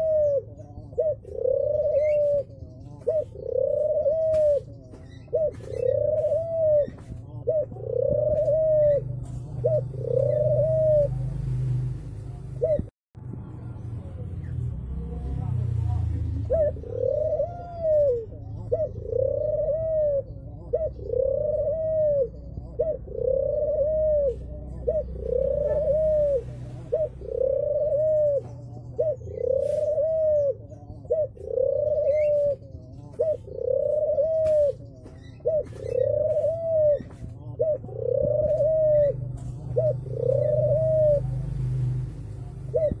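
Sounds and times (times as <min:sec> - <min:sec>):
dove cooing: 0:00.0 - 0:12.9, 0:15.4 - 0:43.0.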